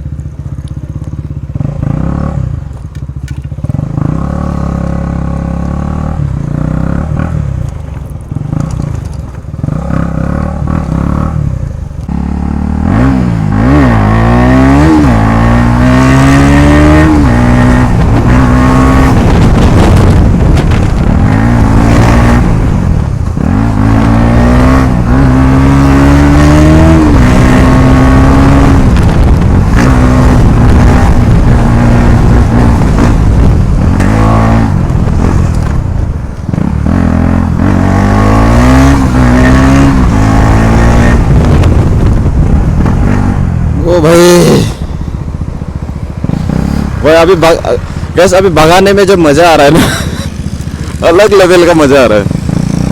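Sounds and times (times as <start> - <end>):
loud motorcycle engine revving: 1.4 - 2.6, 3.6 - 7.6, 8.3 - 52.9.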